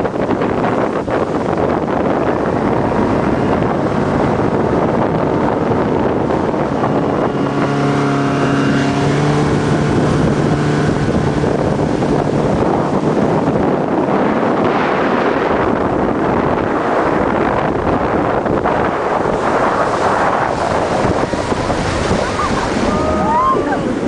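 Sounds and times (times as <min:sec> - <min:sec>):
motorboat engine hum: 0:00.0 - 0:24.0
wind noise on microphone: 0:00.0 - 0:24.0.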